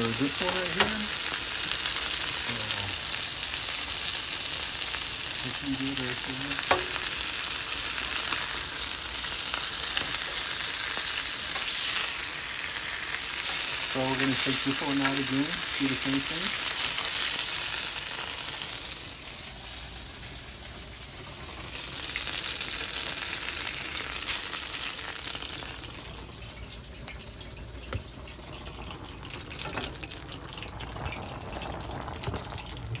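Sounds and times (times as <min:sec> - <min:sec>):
chicken sizzling in a pan: 0:00.0 - 0:33.0.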